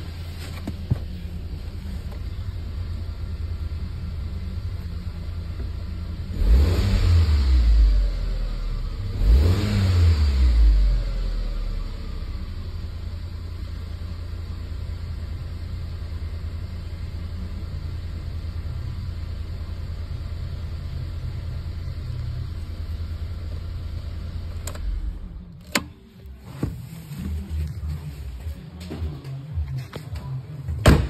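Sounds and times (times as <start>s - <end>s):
car engine idling: 0.0s - 28.5s.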